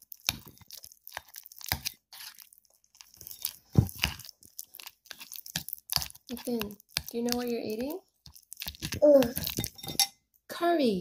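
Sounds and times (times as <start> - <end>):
toddler chewing food: 0.0 - 9.8.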